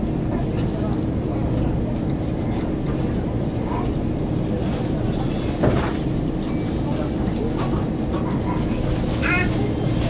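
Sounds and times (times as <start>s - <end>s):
electric train hum: 0.0s - 10.0s.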